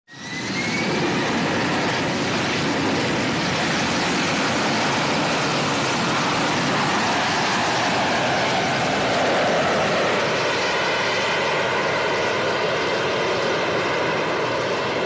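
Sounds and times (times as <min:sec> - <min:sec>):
jet engine roar: 0:00.1 - 0:15.0
thin jet whine: 0:00.1 - 0:15.0.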